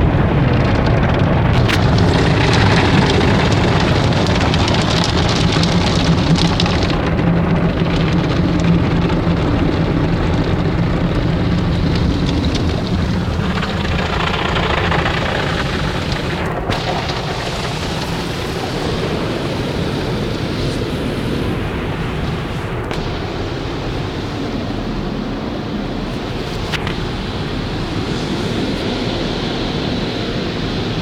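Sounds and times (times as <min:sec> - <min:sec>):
car wash spray and machinery: 0:00.0 - 0:31.0.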